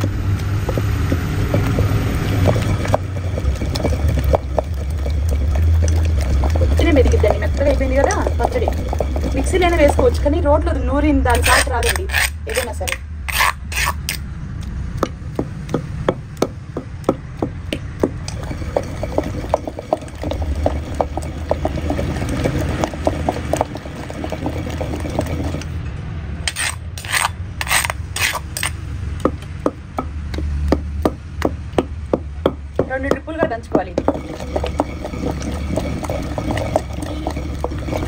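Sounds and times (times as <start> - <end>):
pestle pounding in stone mortar: 0.0 - 10.3, 15.0 - 25.7, 26.5 - 38.0
low steady rumble: 0.0 - 38.0.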